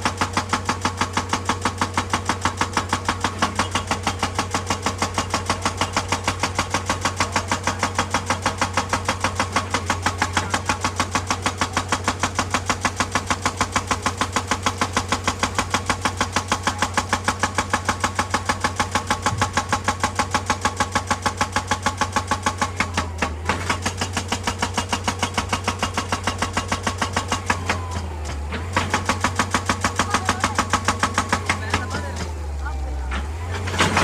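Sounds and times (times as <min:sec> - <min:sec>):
excavator engine running: 0:00.0 - 0:34.0
hydraulic breaker hammering rock: 0:00.0 - 0:34.0.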